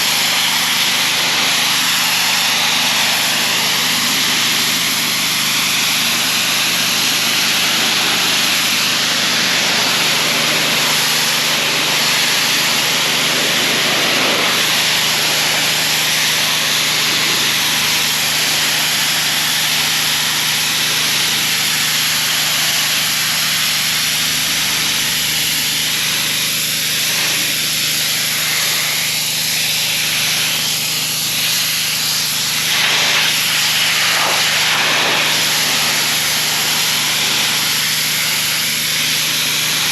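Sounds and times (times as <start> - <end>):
high-pressure water spray hiss: 0.0 - 39.9
pressure washer engine running: 0.0 - 39.9.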